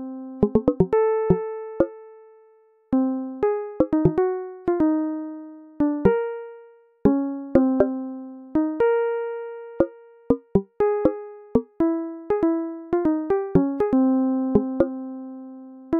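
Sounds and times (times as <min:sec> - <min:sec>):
slow keyboard melody: 0:00.0 - 0:15.9.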